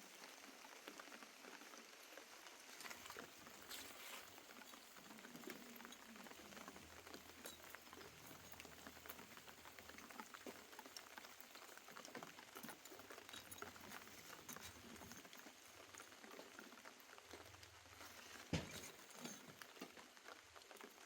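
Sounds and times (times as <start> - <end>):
faint rain pattering: 0.0 - 21.0.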